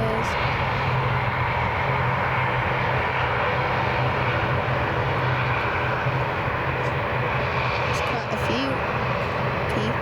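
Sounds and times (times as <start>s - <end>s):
airliner engines running: 0.0s - 10.0s
low hum: 0.0s - 10.0s.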